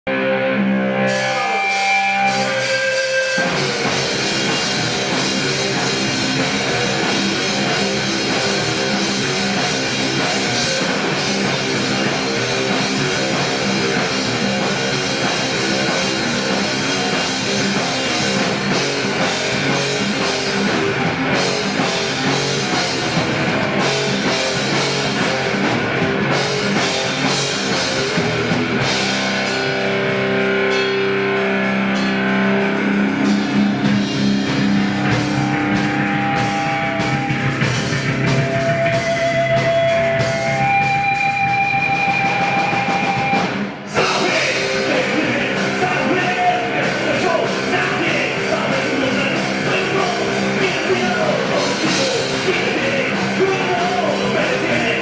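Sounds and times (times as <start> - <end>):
rock music with guitar and drums: 0.1 - 55.0.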